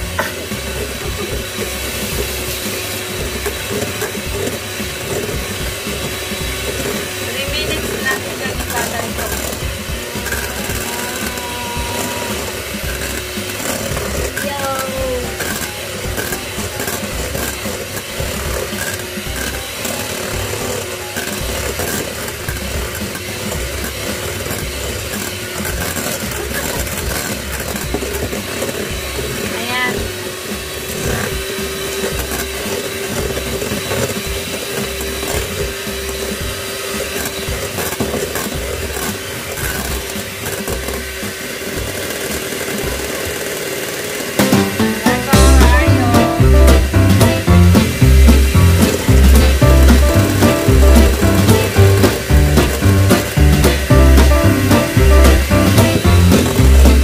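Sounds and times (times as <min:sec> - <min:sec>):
electric mixer whirring: 0:00.0 - 0:57.0.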